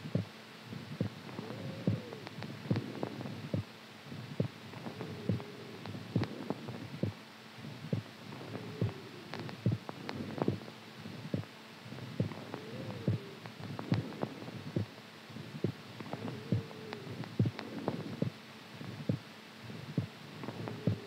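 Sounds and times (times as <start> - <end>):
heartbeat thumps: 0.0 - 21.0.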